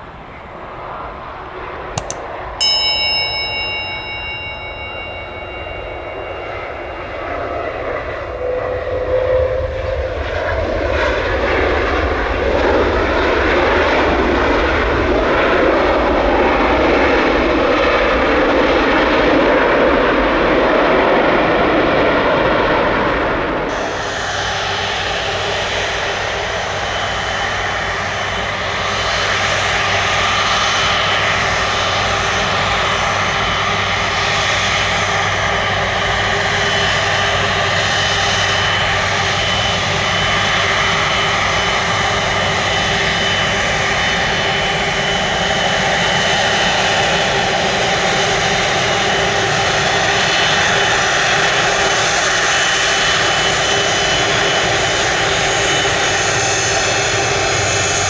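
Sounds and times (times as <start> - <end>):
thin high engine whine: 0.0 - 14.5, 21.2 - 58.0.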